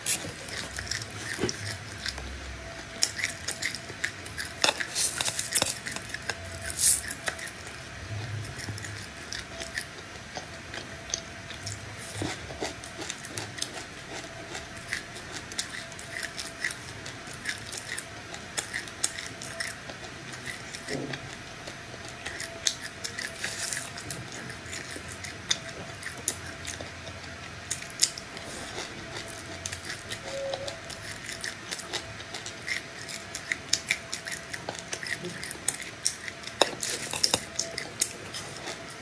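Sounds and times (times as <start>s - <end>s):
chewing seeds with crisp crunches: 0.0s - 39.0s.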